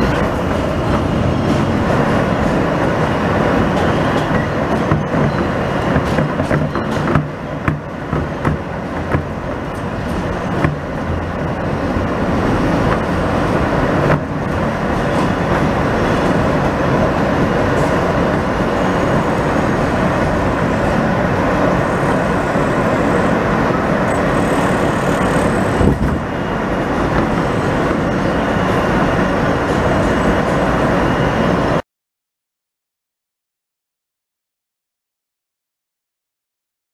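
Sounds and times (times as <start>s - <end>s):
subway train running on track: 0.0s - 31.8s.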